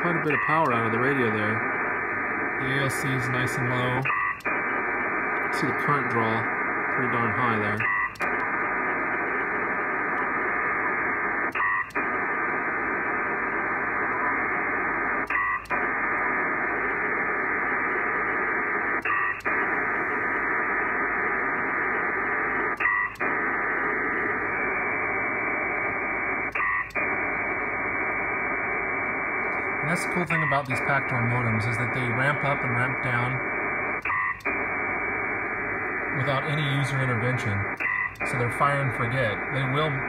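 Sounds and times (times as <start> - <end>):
dense hiss of data tones: 0.0 - 40.0.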